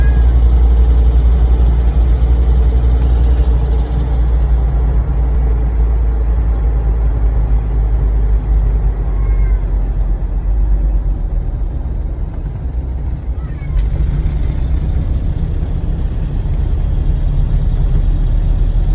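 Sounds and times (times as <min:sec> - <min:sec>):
car interior engine and road noise: 0:00.0 - 0:18.9.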